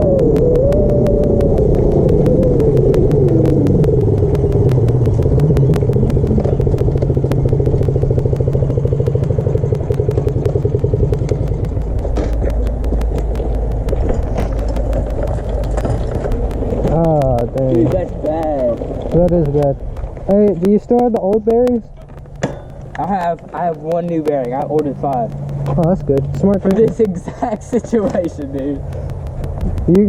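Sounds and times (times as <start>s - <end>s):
small motorbike engine idling: 0.0s - 30.0s.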